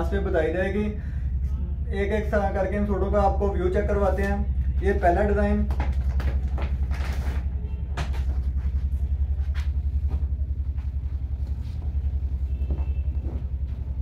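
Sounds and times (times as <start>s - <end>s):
low pulsing hum: 0.0s - 14.0s.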